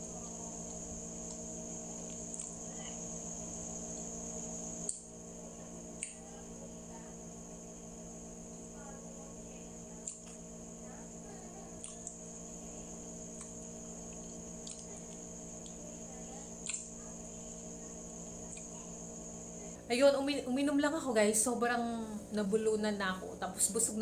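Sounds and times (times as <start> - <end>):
high-pitched whine: 0.0 - 24.0
steady background hum: 0.0 - 24.0.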